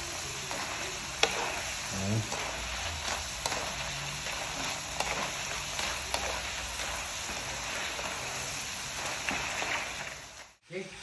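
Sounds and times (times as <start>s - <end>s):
oil crackles: 0.0s - 10.6s
wooden spatula stirring: 0.0s - 10.6s
potatoes sizzling in hot oil: 0.0s - 11.0s.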